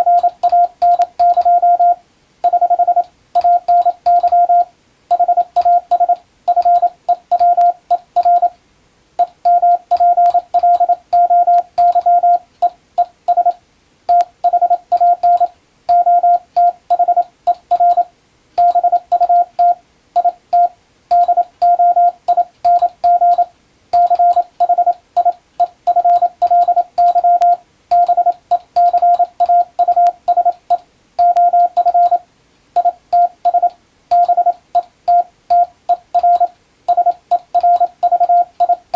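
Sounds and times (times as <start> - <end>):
morse code tone: 0.0 - 8.6, 9.2 - 32.2, 32.8 - 38.9.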